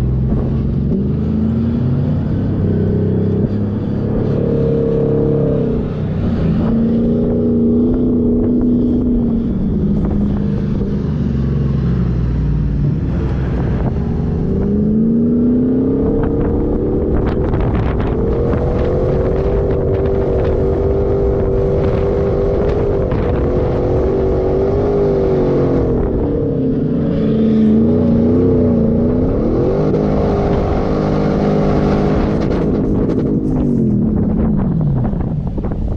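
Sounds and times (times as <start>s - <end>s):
off-road engine revving: 0.0s - 35.9s.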